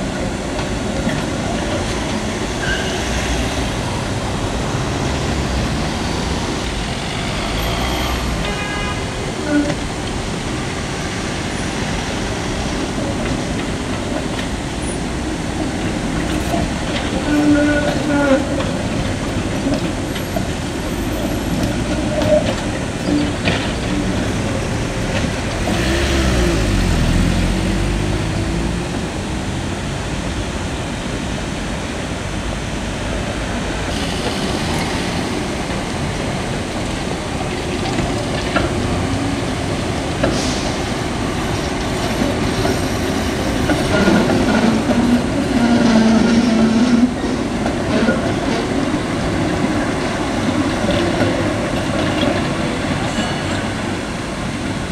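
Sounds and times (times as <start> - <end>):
passing road traffic: 0.0 - 54.9
tram wheels rumbling on rails: 0.0 - 54.9.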